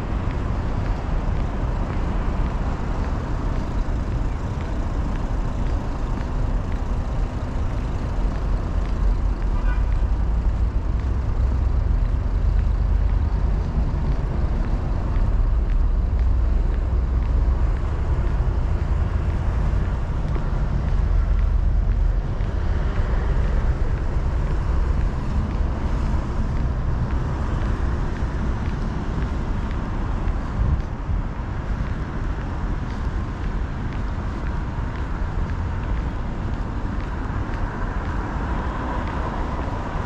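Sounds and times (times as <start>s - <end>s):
passing road vehicles rumble: 0.0s - 40.0s.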